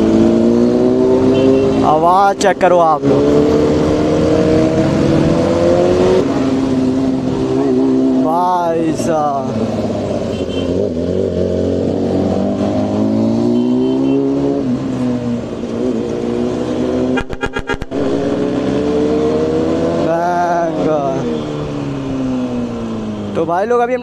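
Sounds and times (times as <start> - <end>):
motorcycle engine revving: 0.0 - 8.7, 9.3 - 23.4.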